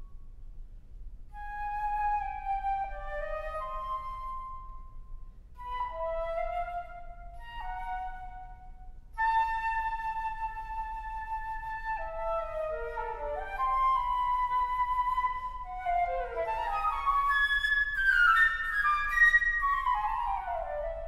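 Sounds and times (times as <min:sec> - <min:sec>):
solo flute playing: 0:01.3 - 0:21.0.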